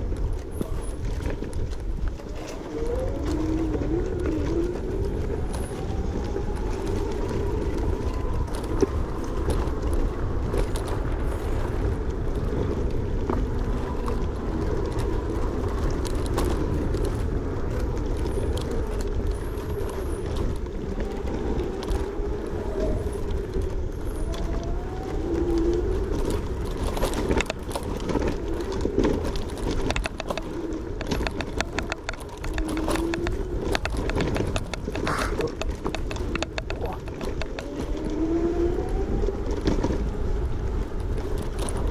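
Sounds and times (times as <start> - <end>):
electric scooter motor whining: 0.0 - 41.9
knocks and rattles from terrain: 0.0 - 41.9
wind rumble: 0.0 - 41.9.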